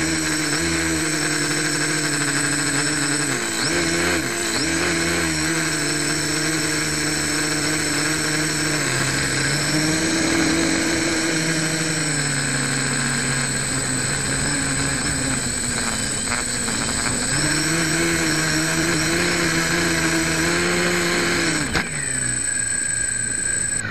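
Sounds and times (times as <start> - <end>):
drone motors humming: 0.0 - 23.9
high steady whine: 0.0 - 23.9.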